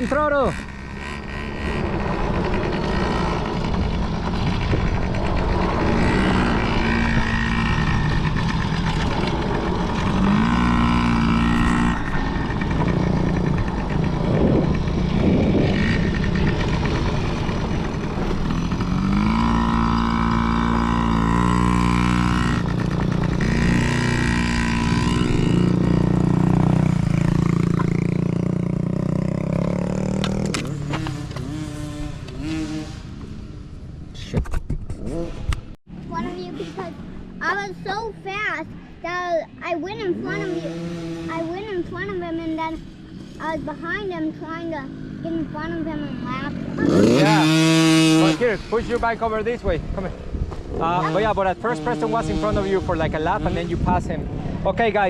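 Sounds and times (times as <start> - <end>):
dirt bike engines revving: 0.0 - 34.3, 34.9 - 55.0.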